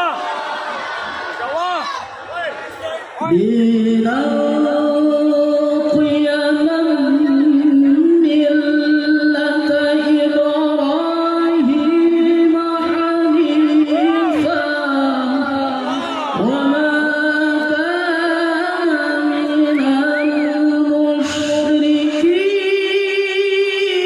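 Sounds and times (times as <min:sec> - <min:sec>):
man reciting in a high voice: 0:03.2 - 0:11.6, 0:12.4 - 0:24.0.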